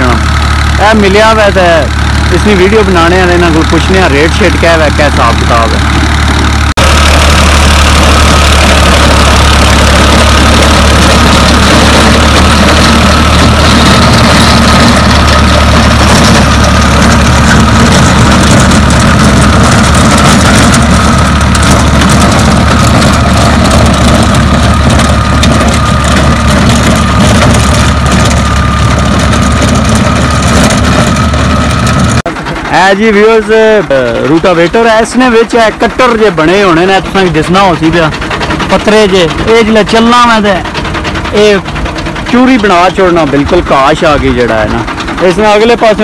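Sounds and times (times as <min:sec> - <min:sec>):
high whine: 0:00.0 - 0:46.0
tractor engine running: 0:00.0 - 0:46.0.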